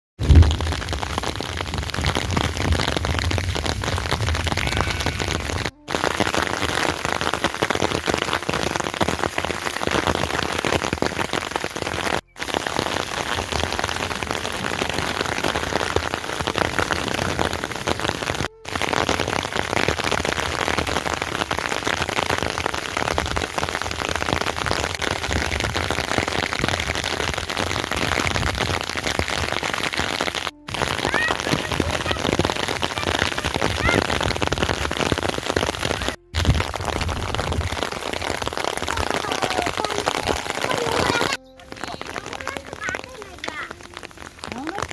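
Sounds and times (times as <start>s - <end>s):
heavy rain falling: 0.2s - 44.9s.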